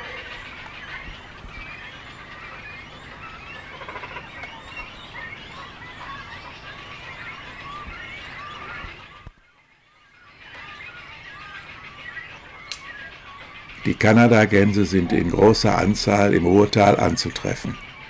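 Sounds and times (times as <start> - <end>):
birds singing and chirping: 0.0 - 18.0.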